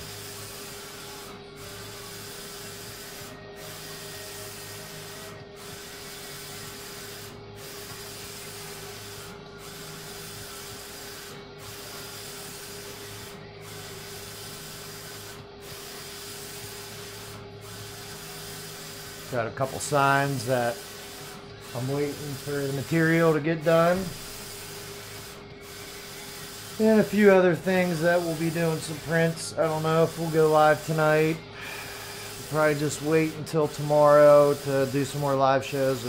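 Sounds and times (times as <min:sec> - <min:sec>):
printer carriage whirring: 0:00.0 - 0:36.0.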